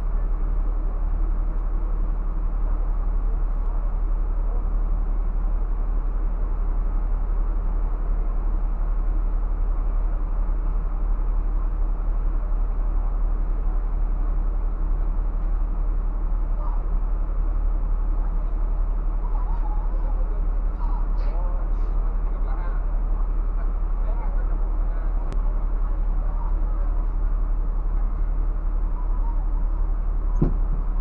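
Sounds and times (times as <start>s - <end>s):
diesel engine idling drone: 0.0s - 31.0s.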